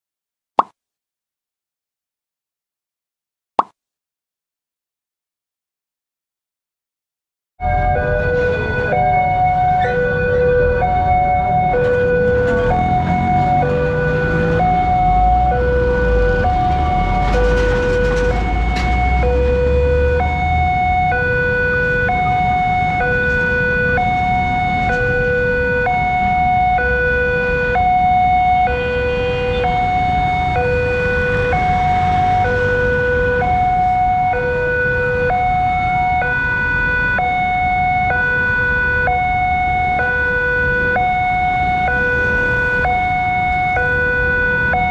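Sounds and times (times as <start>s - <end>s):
level crossing alarm hi-lo tone: 7.6s - 44.9s
low vehicle rumble: 7.6s - 44.9s.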